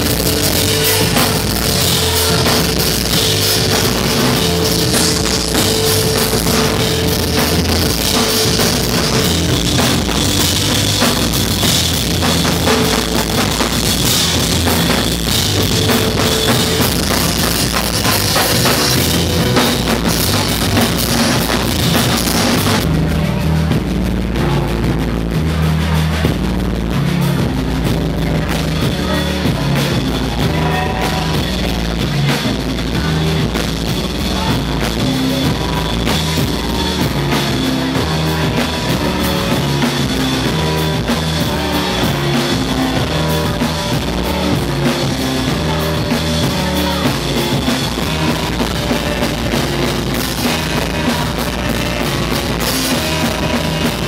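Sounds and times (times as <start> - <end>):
drum kit: 0.0 - 54.0
electric keyboard: 0.0 - 54.0
saxophone: 0.0 - 54.0
walking electric bass line: 0.0 - 54.0.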